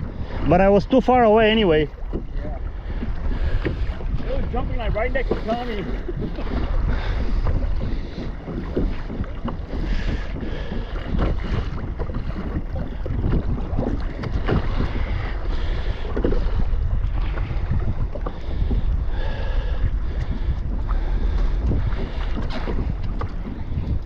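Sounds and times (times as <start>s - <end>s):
water splashing against kayak: 0.0s - 24.0s
wind buffeting microphone: 0.0s - 24.0s.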